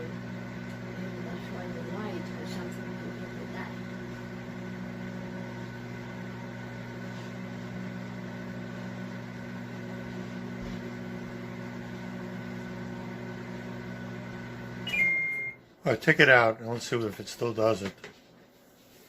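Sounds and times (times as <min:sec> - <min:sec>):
microwave oven humming: 0:00.0 - 0:16.4.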